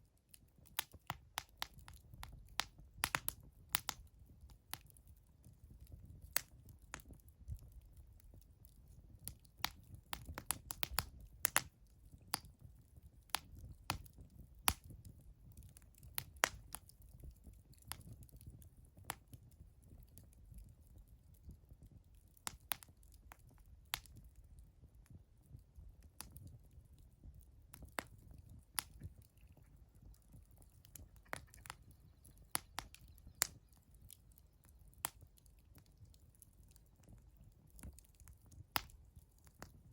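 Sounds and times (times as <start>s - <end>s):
wood fire crackling and popping: 0.2s - 39.9s.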